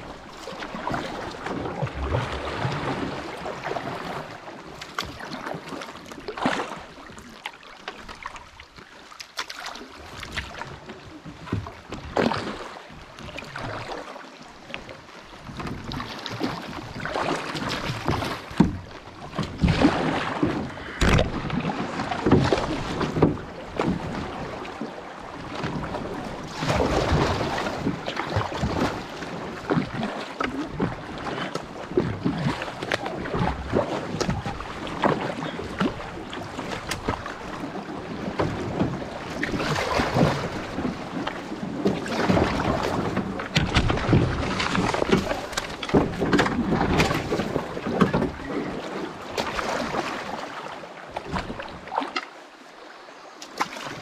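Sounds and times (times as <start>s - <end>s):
paddle strokes splashing in water: 0.0s - 54.0s
water moving past hull: 0.0s - 54.0s.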